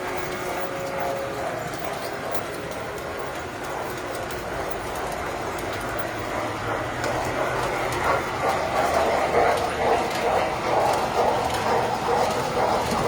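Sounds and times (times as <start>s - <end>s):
model train motor hum: 0.0s - 13.0s
wheels clattering on rail: 0.0s - 13.0s.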